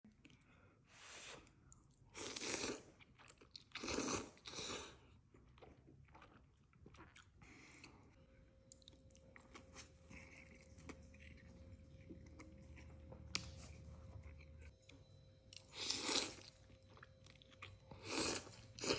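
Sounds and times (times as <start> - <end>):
chewing with mouth clicks: 1.6 - 18.9.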